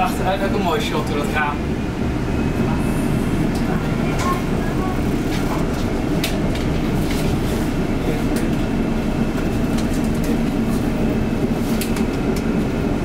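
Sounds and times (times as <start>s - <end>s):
constant hum: 0.0s - 13.0s
tram wheels rumbling: 0.0s - 13.0s.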